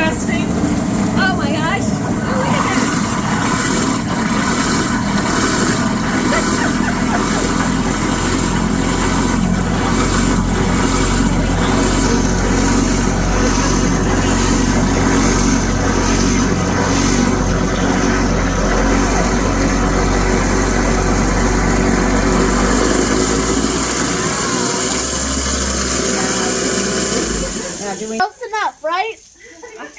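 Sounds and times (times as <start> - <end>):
garbage disposal motor hum: 0.0 - 28.2
ice rattling in disposal: 0.0 - 28.2.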